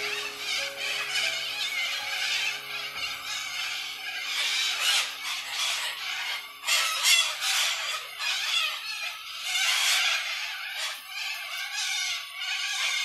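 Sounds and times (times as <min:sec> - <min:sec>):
cockatoos screeching: 0:00.0 - 0:13.0.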